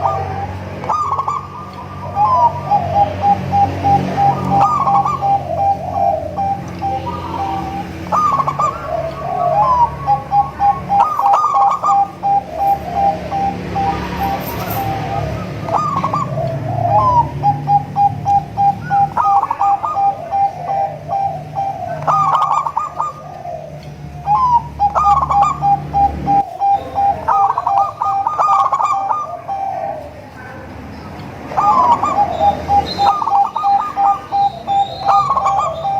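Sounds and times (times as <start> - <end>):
dove cooing song: 0.0 - 35.9.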